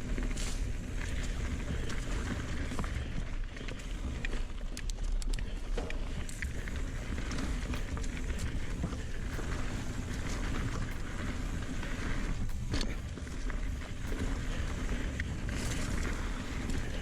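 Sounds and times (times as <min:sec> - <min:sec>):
bike clicks and rattles: 0:00.0 - 0:17.0
tyres rolling over dirt and stones: 0:00.0 - 0:17.0
wind buffeting microphone: 0:00.0 - 0:17.0.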